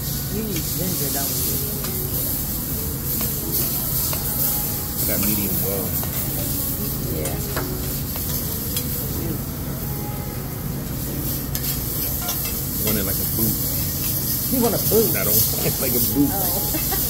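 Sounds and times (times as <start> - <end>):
meat and vegetables sizzling: 0.0 - 17.0.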